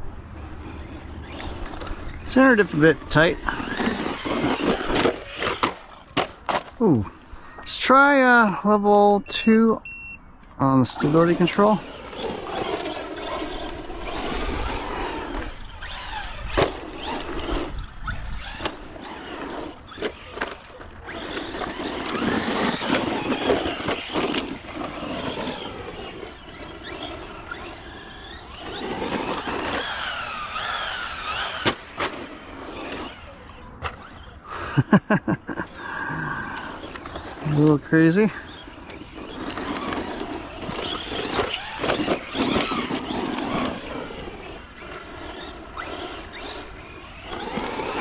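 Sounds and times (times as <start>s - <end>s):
electric motor whining: 0.0s - 6.9s, 10.9s - 34.5s, 35.6s - 48.0s
tyres on dirt: 0.0s - 48.0s.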